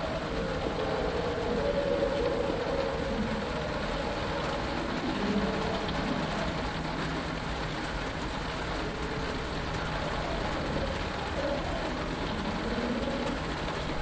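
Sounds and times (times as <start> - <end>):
rain pattering on canopy: 0.0 - 14.0.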